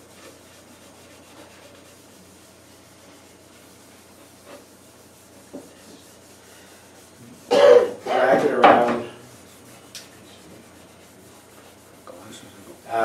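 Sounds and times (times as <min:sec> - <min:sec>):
pad rubbing on wood: 0:00.0 - 0:13.0.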